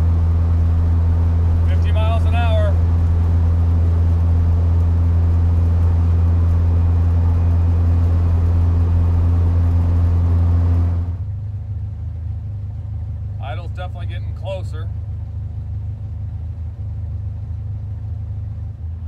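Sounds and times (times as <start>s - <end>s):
car engine drone from inside cabin: 0.0s - 19.0s.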